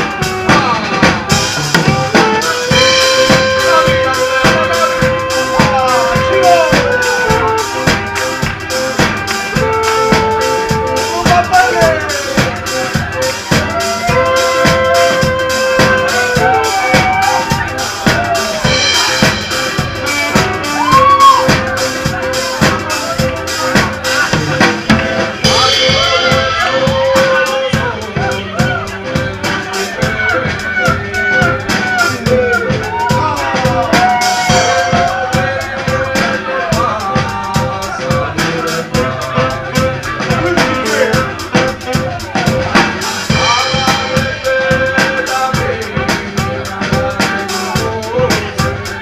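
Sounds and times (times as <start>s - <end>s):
button accordion melody: 0.0s - 49.0s
drum kit beat: 0.0s - 49.0s
saxophone melody: 0.0s - 49.0s.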